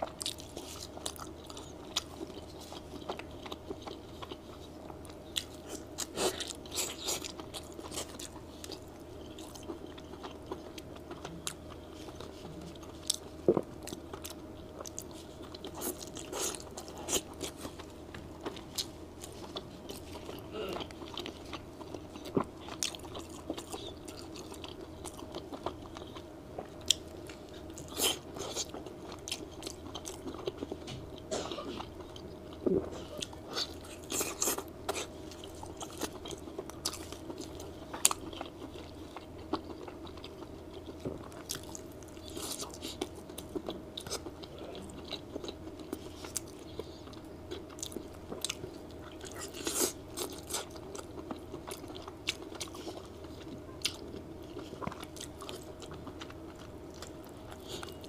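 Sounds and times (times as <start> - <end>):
biting and chewing: 0.0 - 58.0
faint steady hum: 0.0 - 58.0.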